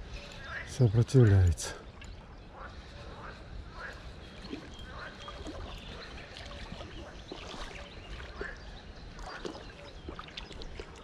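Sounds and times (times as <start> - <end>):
river water splashing: 1.3 - 11.0.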